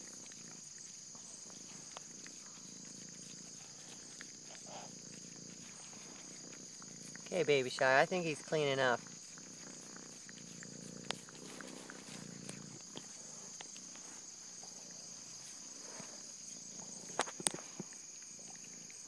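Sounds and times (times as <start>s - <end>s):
soft rustling: 0.0s - 18.0s
insects chirping: 0.0s - 19.0s.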